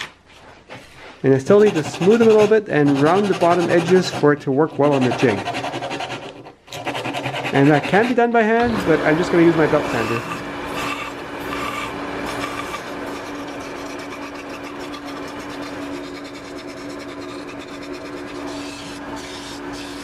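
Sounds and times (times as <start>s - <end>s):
wood rasping on sanding belt: 1.0s - 8.6s, 9.2s - 20.0s
belt sander humming: 1.3s - 20.0s.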